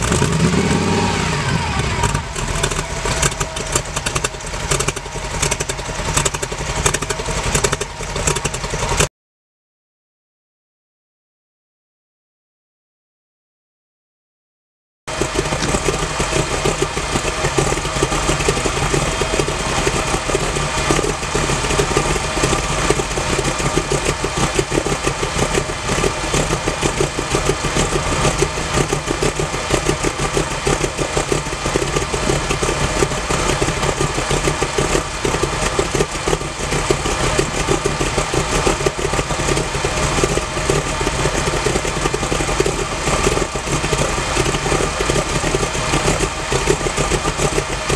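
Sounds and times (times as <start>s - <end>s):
car engine idling: 0.0s - 9.1s, 15.1s - 47.9s.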